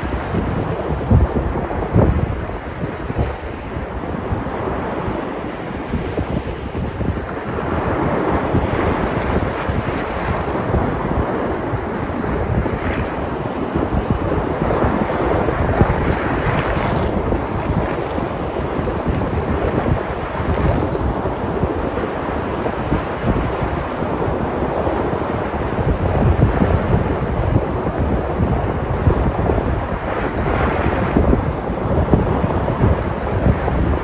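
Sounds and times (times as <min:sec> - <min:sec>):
waves breaking and washing in: 0:00.0 - 0:34.0
wind rumbling on microphone: 0:00.0 - 0:34.0.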